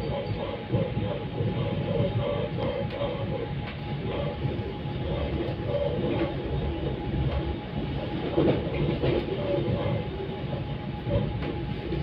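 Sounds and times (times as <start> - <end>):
faint steady whine: 0.0 - 12.0
train wheels rumbling on rails: 0.0 - 12.0.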